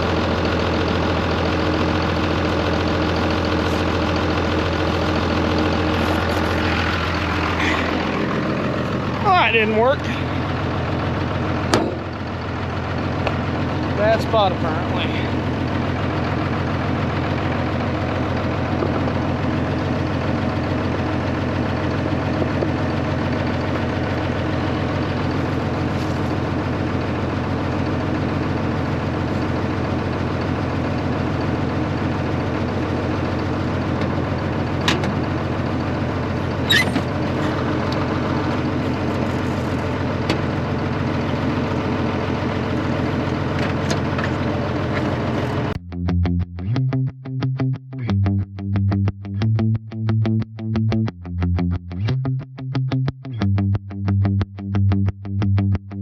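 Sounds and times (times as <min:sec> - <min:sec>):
tractor engine running: 0:00.0 - 0:46.7.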